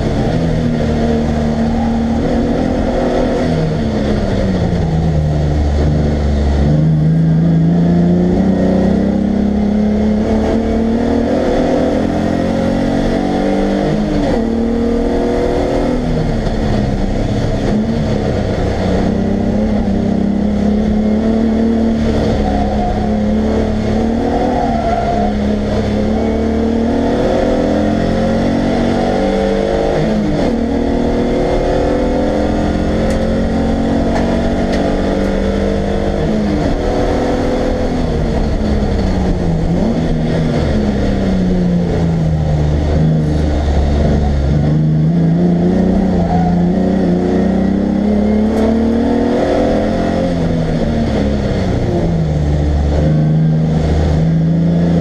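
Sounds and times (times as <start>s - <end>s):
race car engine from inside: 0.0s - 55.0s.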